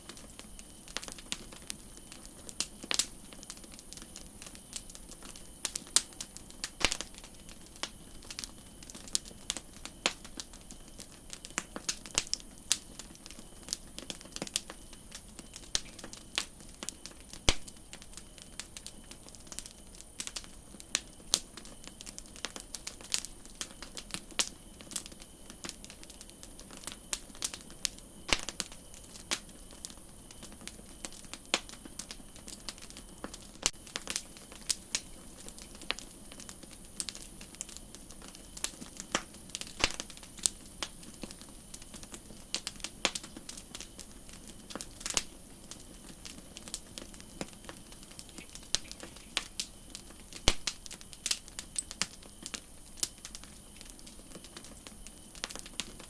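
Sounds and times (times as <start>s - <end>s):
campfire wood crackling and popping: 0.0s - 56.0s
soft steady hiss: 0.0s - 56.0s.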